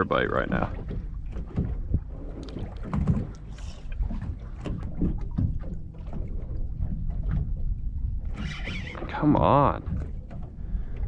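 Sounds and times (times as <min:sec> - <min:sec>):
low wind rumble on microphone: 0:00.0 - 0:11.0
small waves lapping against boat hull: 0:00.0 - 0:11.0.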